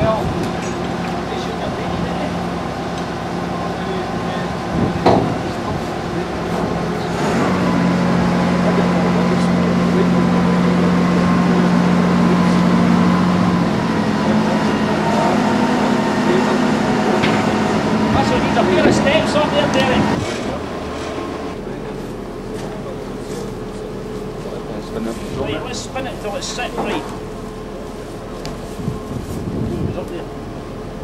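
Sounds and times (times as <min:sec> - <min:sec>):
crane engine running: 0:00.0 - 0:31.0.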